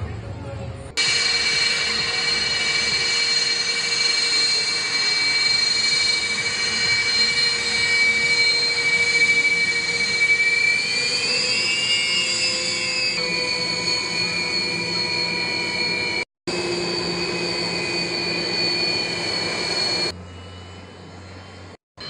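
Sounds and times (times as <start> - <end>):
rushing noise: 1.0 - 20.2
jet engines whining: 1.0 - 21.8.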